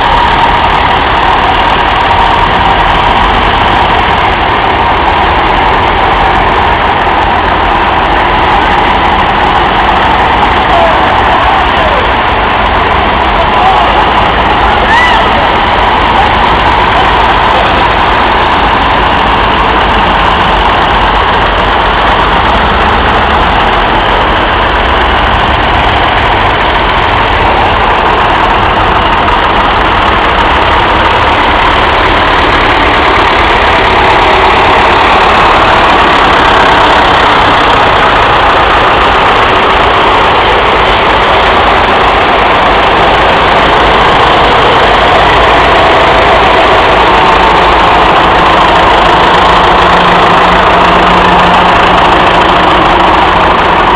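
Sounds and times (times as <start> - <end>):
tractor engines running at low revs: 0.0 - 53.9.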